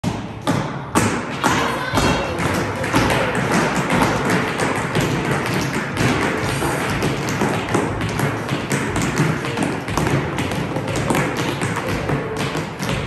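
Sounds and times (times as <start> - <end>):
tap shoes on hard floor: 0.0 - 13.0
music playing: 1.4 - 13.0.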